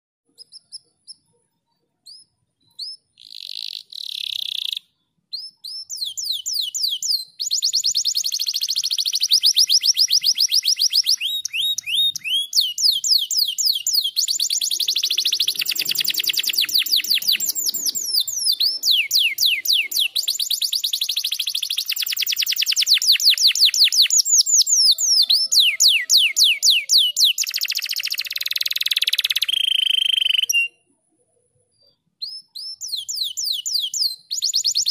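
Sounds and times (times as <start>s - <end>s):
single bird chirps: 0.3s - 30.9s, 31.8s - 34.9s
canary singing trills: 0.3s - 31.0s, 31.8s - 34.9s.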